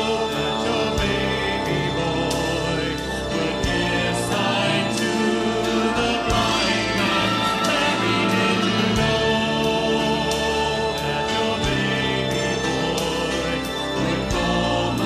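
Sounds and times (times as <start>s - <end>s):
live gospel music: 0.0s - 15.0s.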